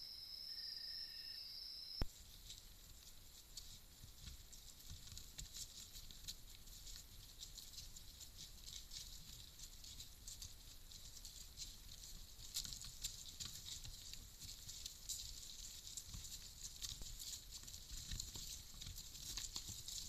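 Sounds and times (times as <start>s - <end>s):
ticks and rustles on ground: 2.0s - 20.0s.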